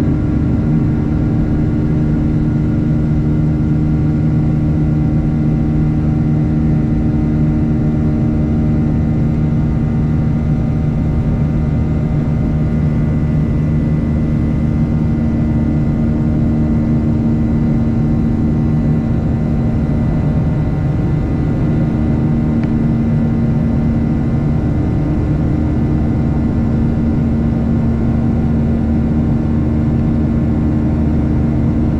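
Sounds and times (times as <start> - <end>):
airliner engines droning in cabin: 0.0 - 31.9.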